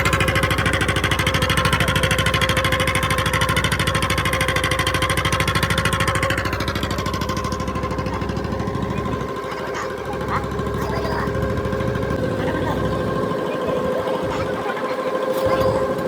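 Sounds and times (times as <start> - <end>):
boat engine chugging: 0.0 - 16.0.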